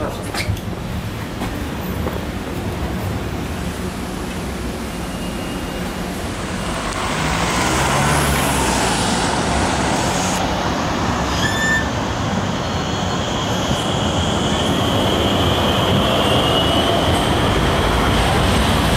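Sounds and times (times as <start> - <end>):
electric tram rolling on track: 0.0 - 18.9.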